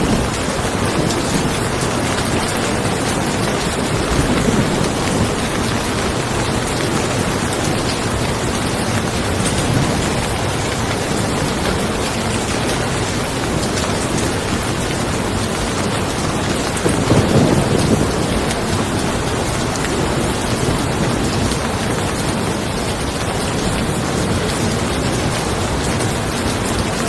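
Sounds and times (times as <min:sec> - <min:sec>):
low rumble of thunder: 0:00.0 - 0:27.0
steady rain falling: 0:00.0 - 0:27.0.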